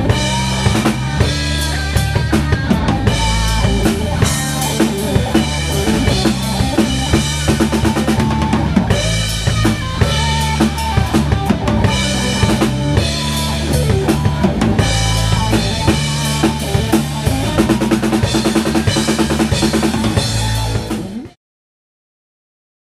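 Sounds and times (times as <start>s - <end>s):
electric guitar: 0.0s - 21.4s
rock band playing: 0.0s - 21.4s.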